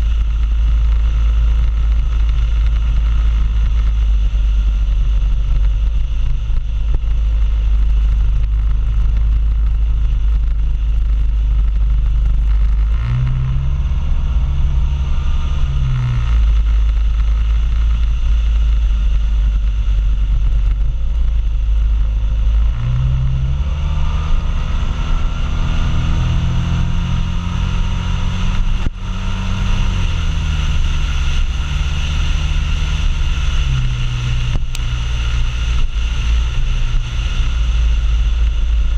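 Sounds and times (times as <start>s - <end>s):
motorbike engine accelerating: 0.0s - 38.9s
wind rush: 0.0s - 38.9s.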